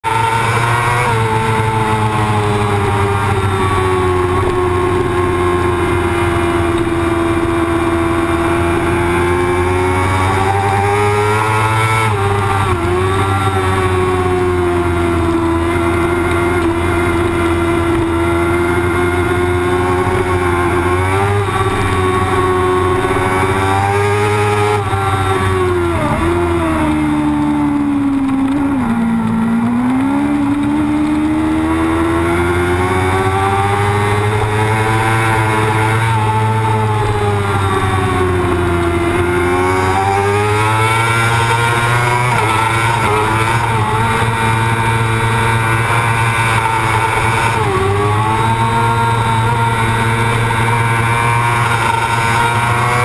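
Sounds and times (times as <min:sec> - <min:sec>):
motorcycle engine at high revs: 0:00.0 - 0:53.0.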